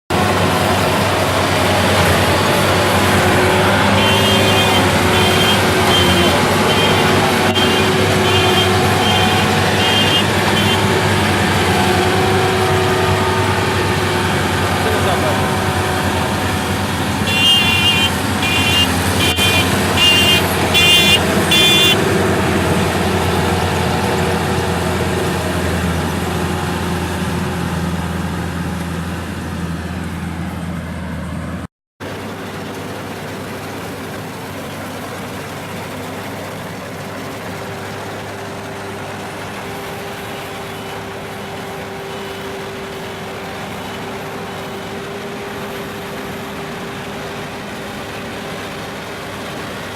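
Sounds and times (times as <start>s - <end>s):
combine harvester engine running: 0.1s - 49.9s.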